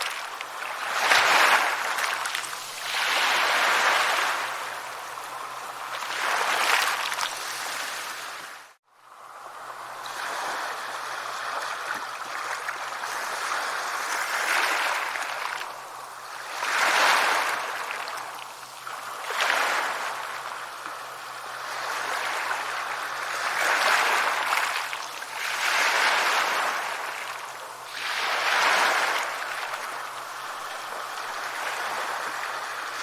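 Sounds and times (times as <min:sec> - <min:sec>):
sea waves washing onto shore: 0:00.0 - 0:33.0.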